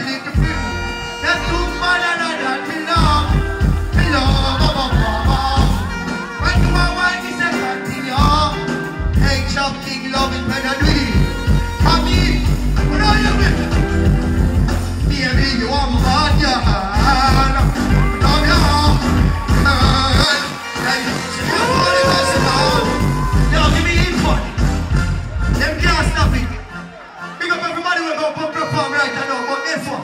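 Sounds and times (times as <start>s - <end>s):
deejay vocals over bass-heavy beat: 0.0s - 13.9s, 15.0s - 30.0s.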